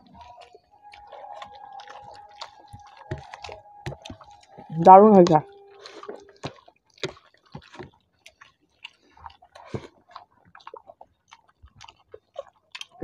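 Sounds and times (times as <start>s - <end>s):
chewing and mouth smacks: 0.0s - 4.8s, 5.4s - 13.0s
fingers squishing rice: 0.0s - 13.0s.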